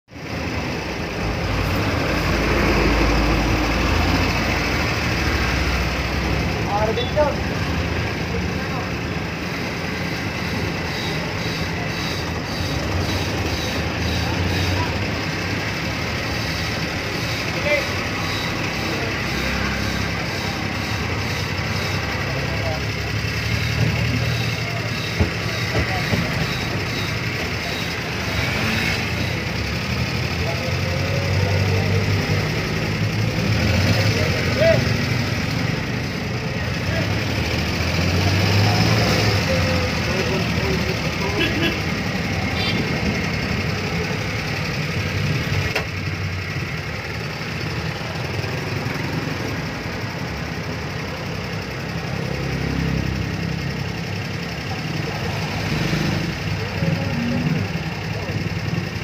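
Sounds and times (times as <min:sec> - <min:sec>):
vehicle engine rumble: 0:00.0 - 0:59.0
road noise hiss: 0:00.1 - 0:59.0.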